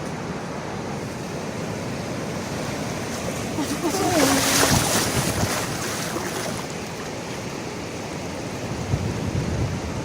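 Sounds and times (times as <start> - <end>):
surf washing on beach: 0.0 - 10.0.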